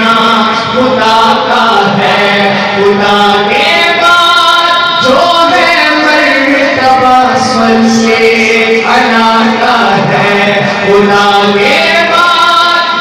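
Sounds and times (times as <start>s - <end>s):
men singing through microphones: 0.0s - 13.0s.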